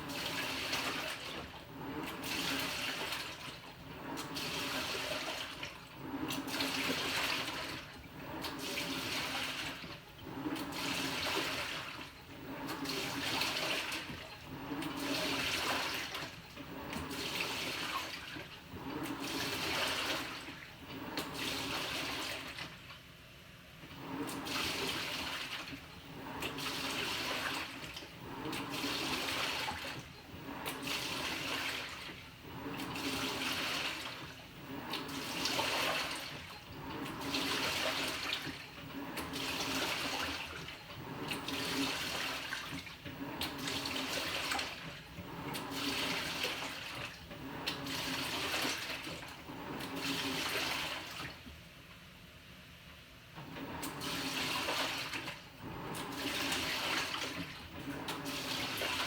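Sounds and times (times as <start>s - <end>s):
washing machine water sloshing: 0.0s - 23.1s, 23.8s - 51.7s, 53.3s - 59.0s.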